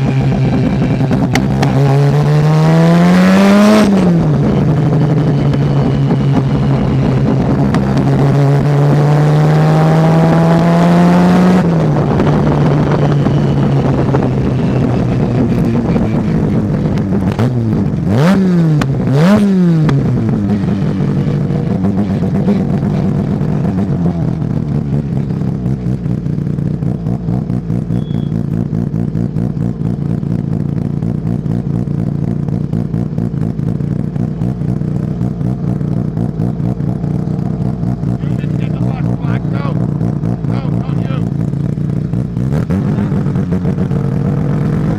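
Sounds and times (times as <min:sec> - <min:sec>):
racing car engine revving: 0:00.0 - 0:44.9.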